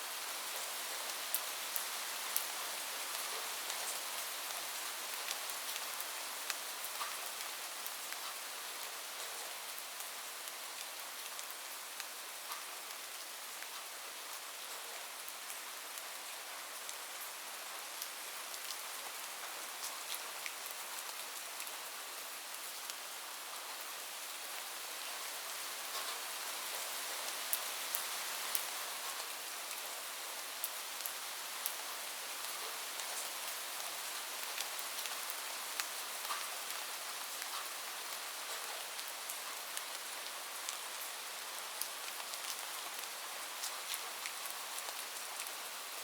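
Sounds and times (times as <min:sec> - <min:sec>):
rain on a roof: 0:00.0 - 0:46.0.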